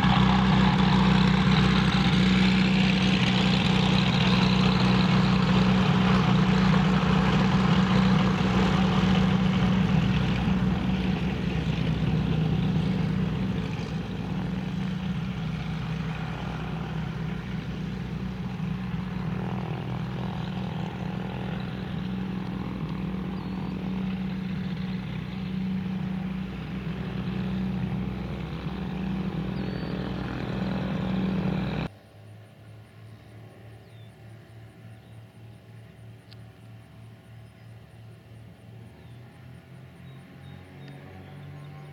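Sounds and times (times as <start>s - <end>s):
twin propeller engines droning: 0.0s - 41.9s.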